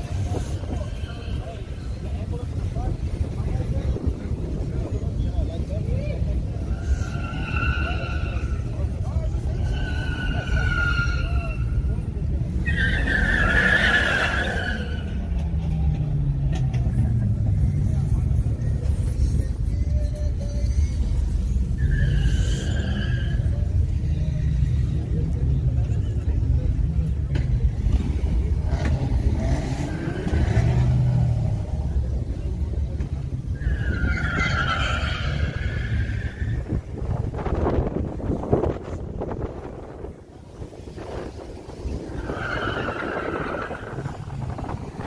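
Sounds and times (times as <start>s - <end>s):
tires squealing: 0.0s - 19.3s, 21.3s - 45.0s
car engine rumbling: 0.0s - 45.0s.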